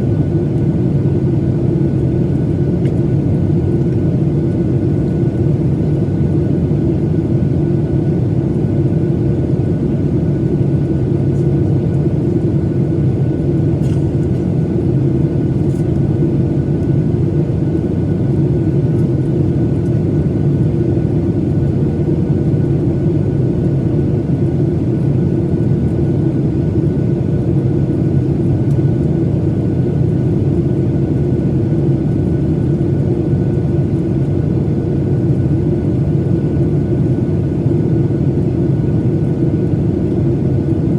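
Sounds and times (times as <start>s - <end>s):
jet engines droning: 0.0s - 40.9s.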